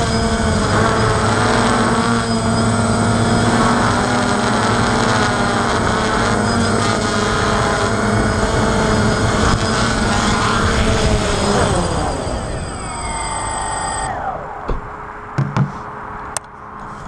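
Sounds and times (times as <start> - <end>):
drone propellers whirring: 0.0 - 16.8.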